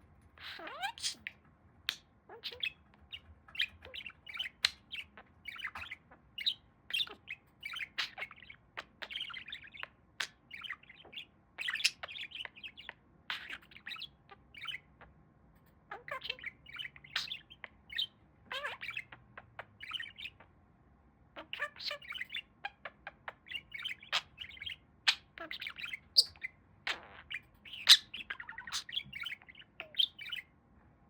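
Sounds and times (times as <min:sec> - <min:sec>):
budgie chattering: 0:00.4 - 0:14.9, 0:16.0 - 0:20.4, 0:21.4 - 0:30.4.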